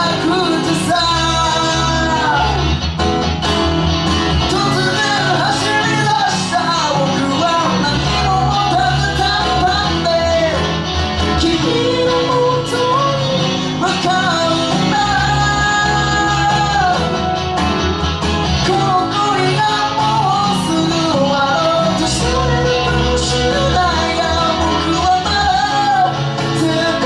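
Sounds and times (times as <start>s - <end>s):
live rock band playing: 0.0s - 27.0s
steady bass line: 0.0s - 27.0s.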